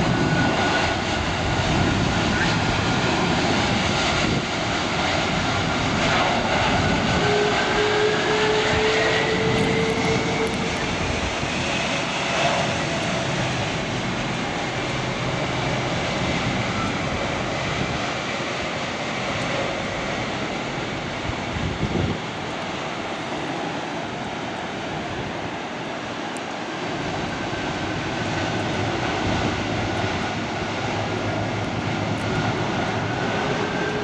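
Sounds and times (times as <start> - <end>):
engine whine climbing in pitch: 0.0 - 25.3, 26.9 - 34.0
jet engines rushing: 0.0 - 34.0.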